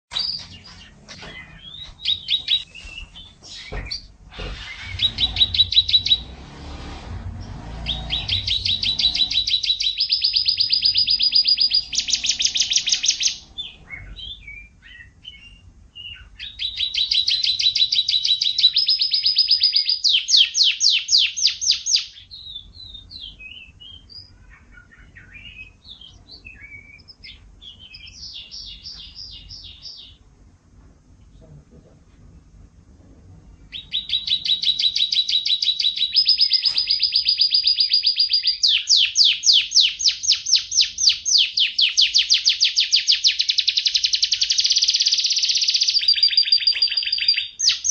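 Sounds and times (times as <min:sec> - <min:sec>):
canaries singing trills: 0:00.1 - 0:30.7, 0:33.3 - 0:47.9.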